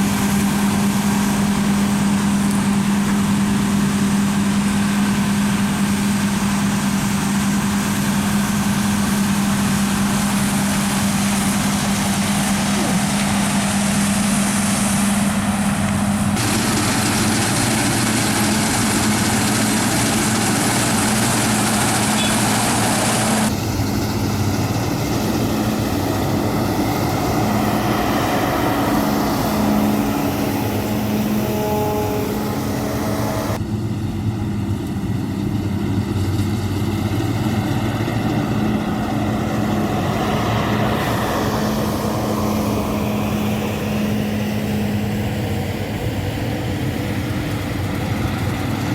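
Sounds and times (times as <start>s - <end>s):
combine harvester running: 0.0s - 48.9s.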